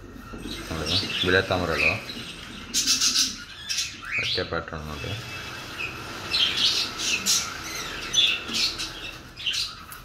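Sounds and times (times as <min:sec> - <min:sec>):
birds chirping and squawking: 0:00.0 - 0:10.0.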